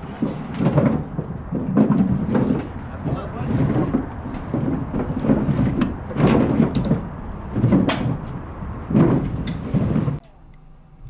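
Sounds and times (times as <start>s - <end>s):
logs thudding on each other: 0.0s - 10.2s.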